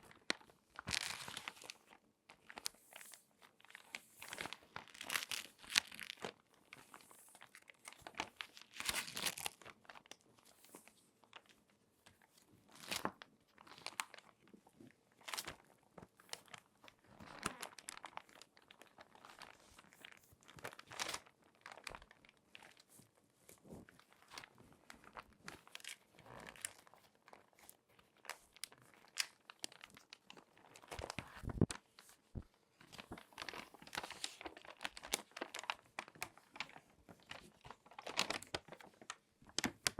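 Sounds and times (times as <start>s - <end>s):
magazine pages crinkling: 0.1s - 11.6s, 12.2s - 14.3s, 15.2s - 39.9s.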